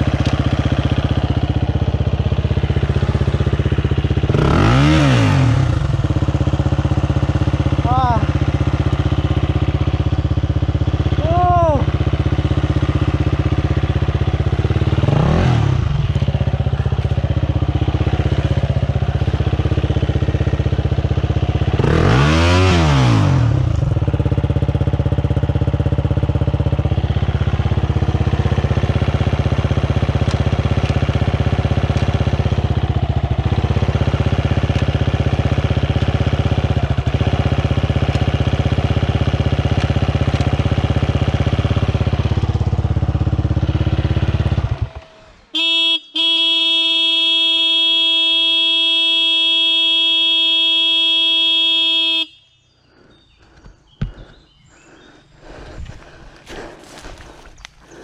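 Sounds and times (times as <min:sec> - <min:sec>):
dirt bike engine idling and revving: 0:00.0 - 0:58.0.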